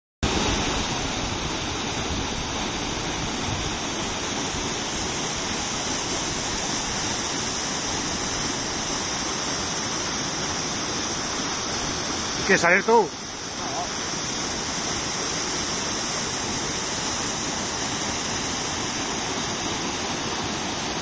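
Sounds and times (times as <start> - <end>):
waterfall rushing: 0.2 - 21.0.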